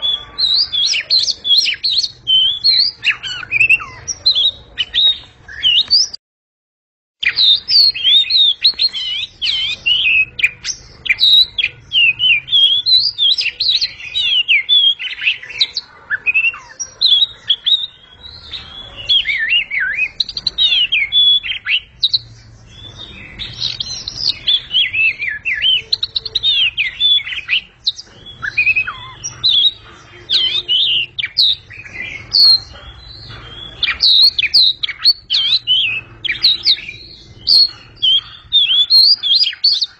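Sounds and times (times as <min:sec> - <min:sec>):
bird singing whistled phrases: 0:00.0 - 0:06.2, 0:07.2 - 0:39.9.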